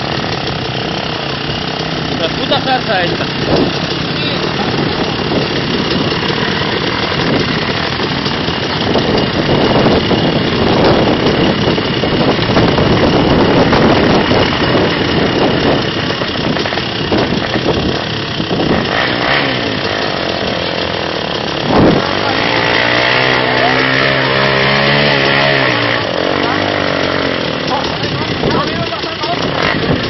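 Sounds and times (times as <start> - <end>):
motorcycle and quad engines: 0.0 - 30.0
quad driving through water: 0.0 - 30.0.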